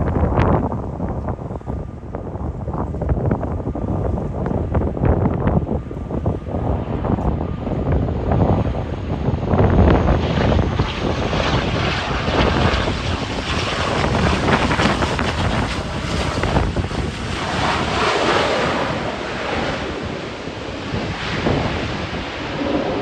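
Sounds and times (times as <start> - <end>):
turboprop airliner: 0.0 - 23.0
wind buffeting microphone: 0.0 - 23.0.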